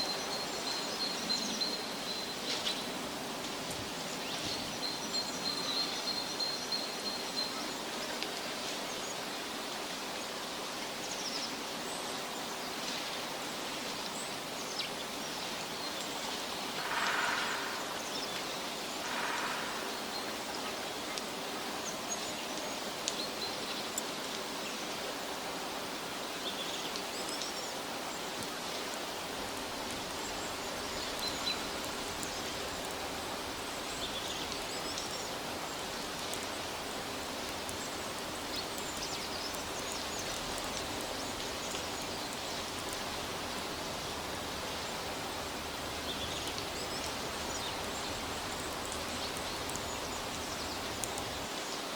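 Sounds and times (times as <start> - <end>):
forest ambience hiss: 0.0 - 51.9
rustle: 0.0 - 51.9.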